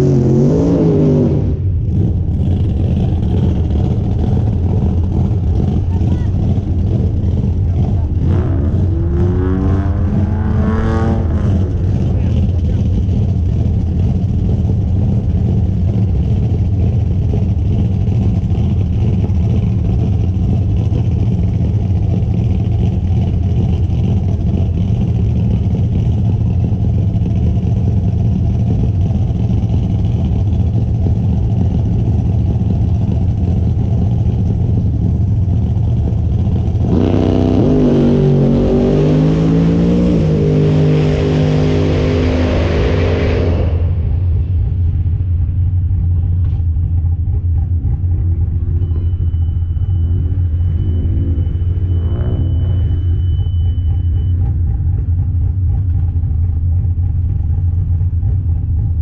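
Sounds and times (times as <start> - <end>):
drag car engine accelerating: 0.0 - 59.0.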